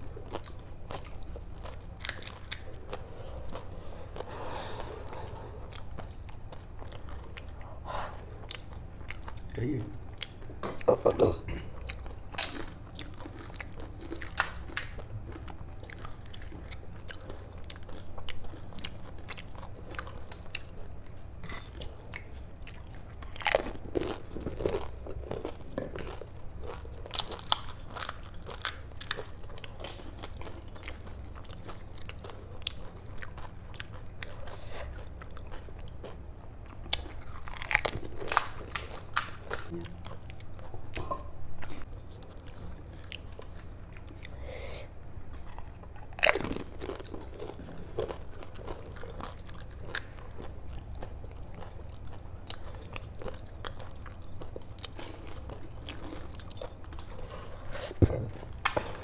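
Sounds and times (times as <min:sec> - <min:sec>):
faint low hum: 0:00.0 - 0:59.0
crunching crisp food: 0:00.2 - 0:07.6, 0:11.8 - 0:40.8, 0:45.3 - 0:59.0.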